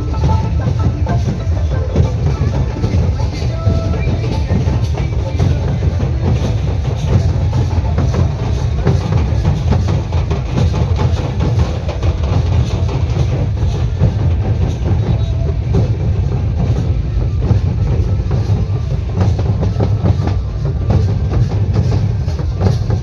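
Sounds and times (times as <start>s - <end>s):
loud percussion music: 0.0s - 23.0s.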